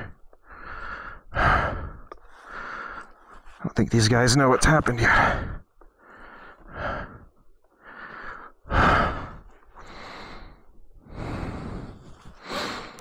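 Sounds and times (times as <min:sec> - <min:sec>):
man breathing close to microphone: 0:00.0 - 0:03.6, 0:05.0 - 0:13.0.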